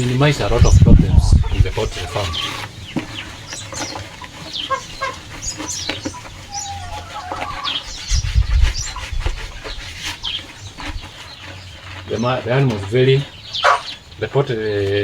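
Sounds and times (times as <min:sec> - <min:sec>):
chickens chirping: 0:00.0 - 0:15.0.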